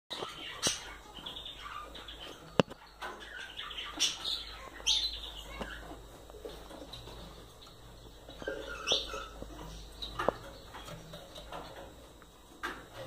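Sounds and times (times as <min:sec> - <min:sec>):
finches chirping: 0:00.1 - 0:12.0.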